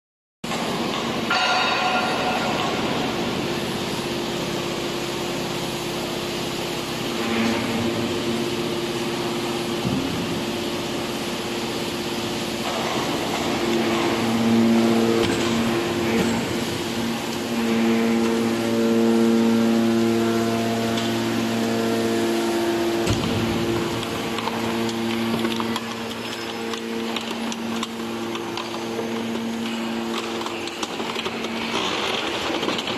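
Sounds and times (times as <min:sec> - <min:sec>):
hydraulic machine hum: 0:00.5 - 0:32.9.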